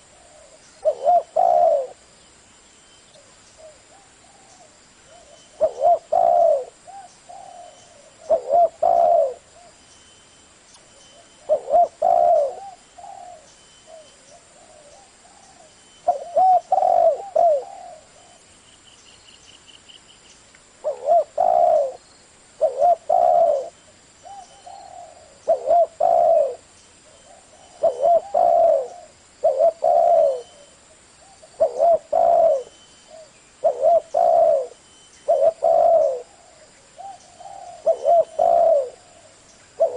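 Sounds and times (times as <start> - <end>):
dove cooing: 0.0 - 2.0, 3.2 - 9.8, 11.1 - 18.5, 20.8 - 22.0, 22.6 - 39.9.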